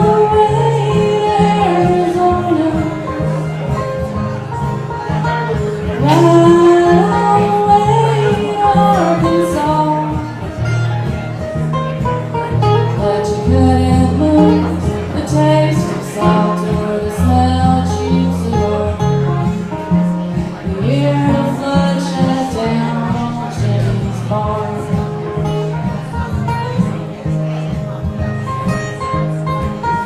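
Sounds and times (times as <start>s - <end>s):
country band playing: 0.0s - 30.0s.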